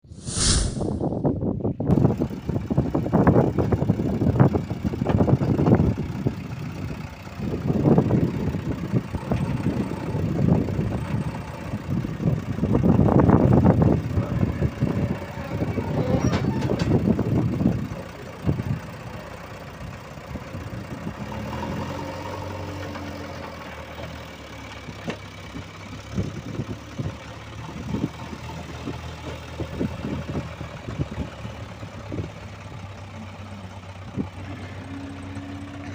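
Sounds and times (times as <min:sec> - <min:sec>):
diesel engine revving and idling: 0:01.9 - 0:35.9.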